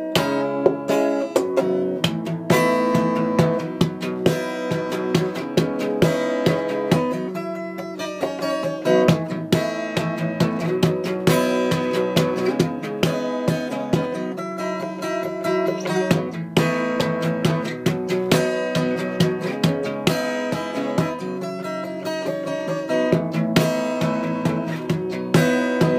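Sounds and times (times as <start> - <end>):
plucked string instrument melody: 0.0 - 25.9.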